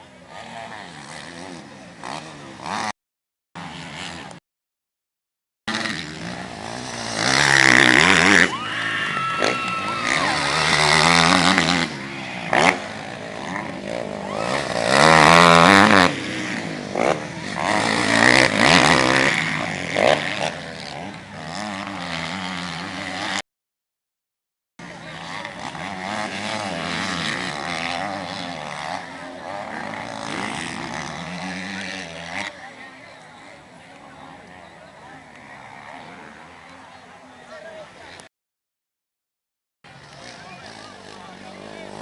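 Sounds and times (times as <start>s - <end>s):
motorcycle engines racing: 0.0s - 2.9s, 3.6s - 4.4s, 5.7s - 23.4s, 24.8s - 38.3s, 39.9s - 42.0s.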